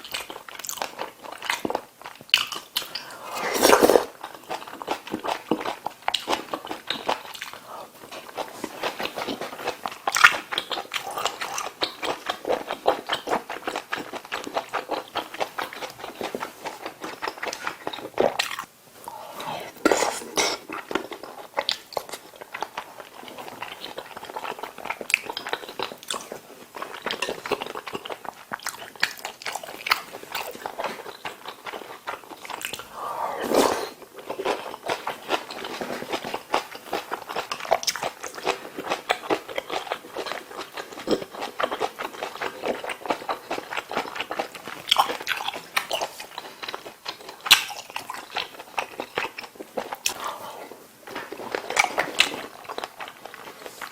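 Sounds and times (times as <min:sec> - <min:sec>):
person chewing and biting: 0:00.0 - 0:53.9.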